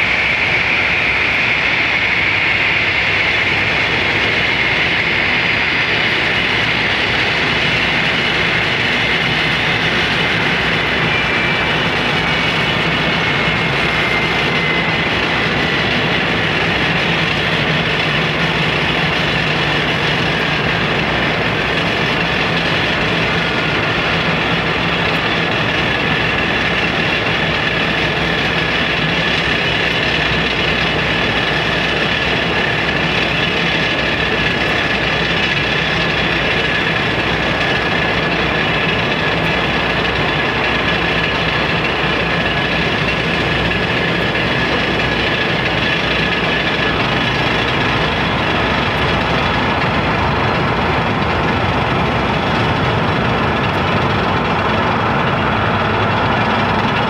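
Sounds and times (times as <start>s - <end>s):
aircraft turbine whine and rumble: 0.0s - 57.0s.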